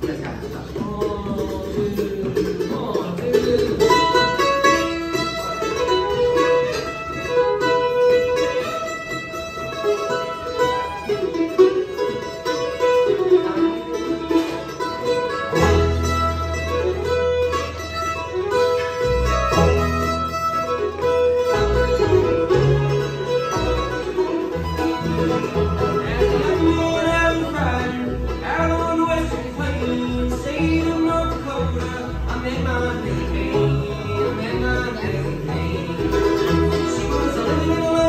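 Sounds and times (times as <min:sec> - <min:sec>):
bluegrass string band playing: 0:00.0 - 0:38.0.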